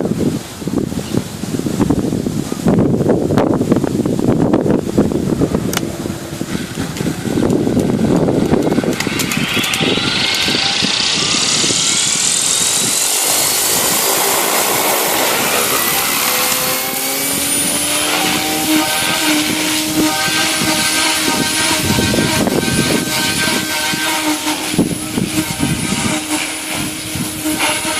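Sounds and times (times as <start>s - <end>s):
model helicopter motor and rotor whine: 0.0s - 27.9s.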